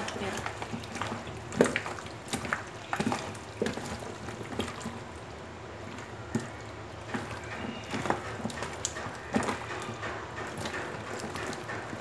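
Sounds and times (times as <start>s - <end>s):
wet squishes of raw chicken: 0.0s - 12.0s.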